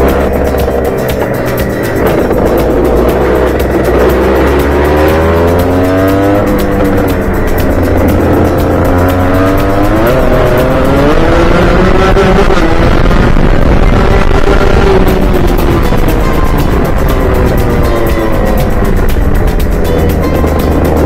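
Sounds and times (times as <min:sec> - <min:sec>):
kart engine revving: 0:00.0 - 0:21.0.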